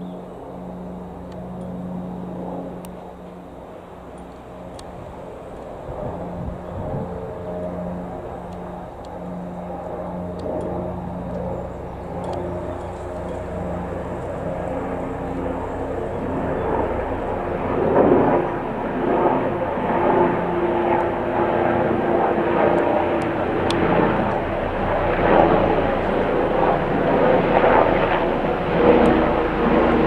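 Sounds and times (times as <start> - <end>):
helicopter turbine whine and rotor: 0.0 - 30.0.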